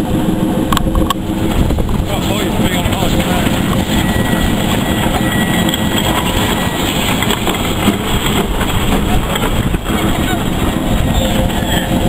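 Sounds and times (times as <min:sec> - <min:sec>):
steam locomotive moving slowly: 0:00.0 - 0:12.0.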